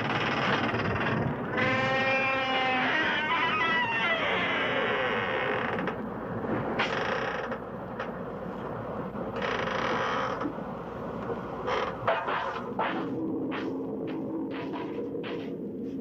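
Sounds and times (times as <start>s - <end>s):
creaking and grinding: 0.0s - 6.1s, 6.8s - 10.6s, 11.2s - 16.0s.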